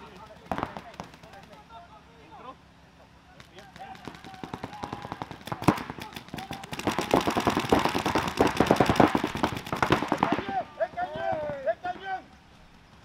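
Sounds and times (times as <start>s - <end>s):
paintball markers firing: 0.0s - 1.7s, 3.4s - 13.0s.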